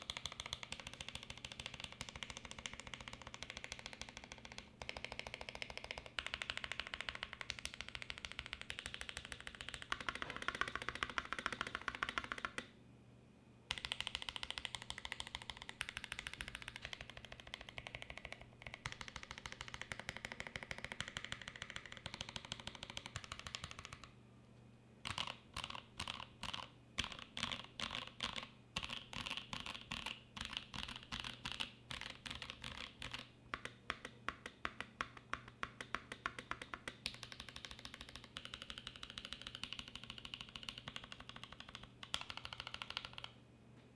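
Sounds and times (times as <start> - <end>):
mechanical keyboard typing: 0.0 - 12.7, 13.7 - 24.1, 25.0 - 43.4.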